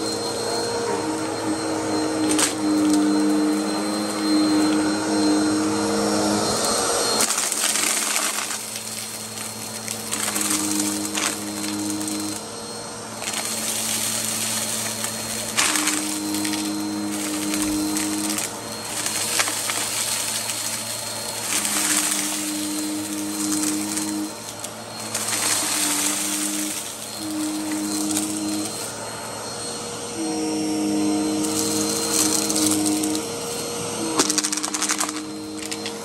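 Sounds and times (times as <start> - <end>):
grit crackling in vacuum: 0.0 - 36.0
vacuum cleaner running: 0.0 - 36.0.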